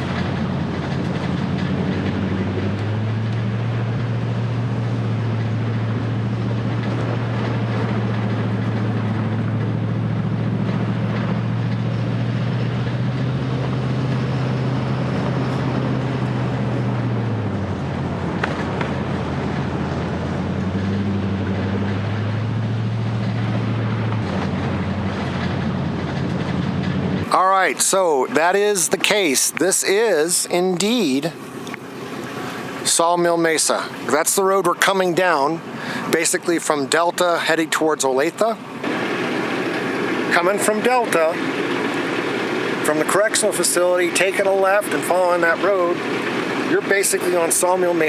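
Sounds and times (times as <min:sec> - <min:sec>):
low engine drone: 0:00.0 - 0:48.0
tyre and road noise: 0:00.0 - 0:48.0.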